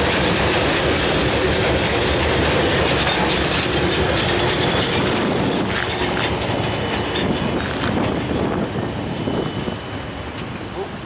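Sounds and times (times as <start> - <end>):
freight train wheels clacking: 0.0 - 11.0.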